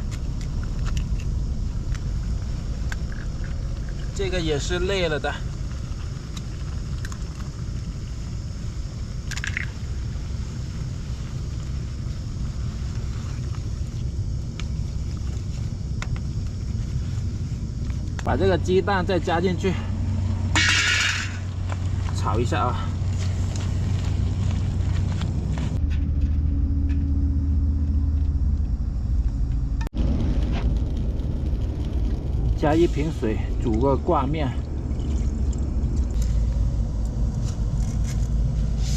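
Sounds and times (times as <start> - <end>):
low hum: 0.0 - 38.9
low rumble: 0.0 - 38.9.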